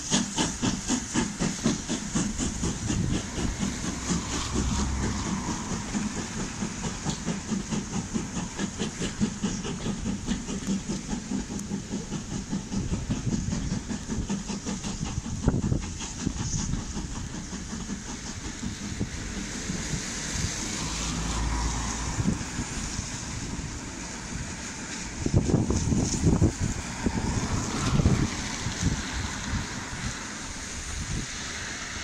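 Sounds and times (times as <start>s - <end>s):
train rumble: 0.0s - 32.0s
train wheels clattering over rail joints: 0.0s - 32.0s.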